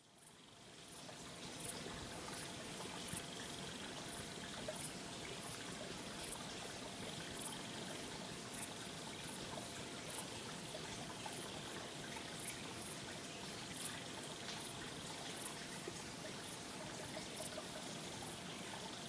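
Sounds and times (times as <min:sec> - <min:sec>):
water trickling and lapping: 0:00.2 - 0:19.0.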